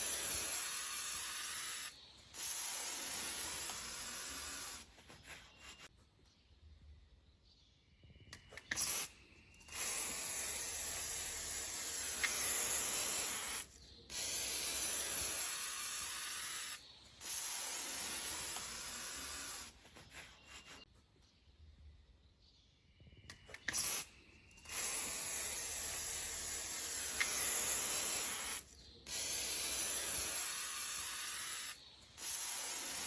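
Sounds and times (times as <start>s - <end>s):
aerosol can spraying hiss: 0.0s - 5.9s, 8.6s - 9.1s, 9.7s - 20.9s, 23.6s - 33.0s.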